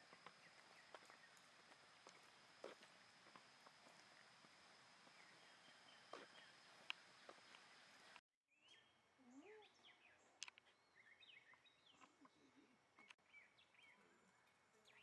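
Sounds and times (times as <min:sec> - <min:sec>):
faint birdsong: 0:00.0 - 0:15.0
quiet outdoor hush: 0:00.0 - 0:15.0.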